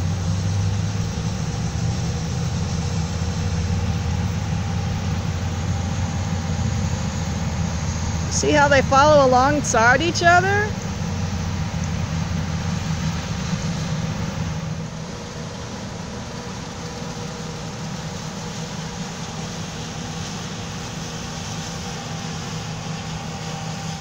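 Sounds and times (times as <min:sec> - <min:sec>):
deep engine drone: 0:00.0 - 0:24.0
faint machinery hum: 0:00.0 - 0:24.0.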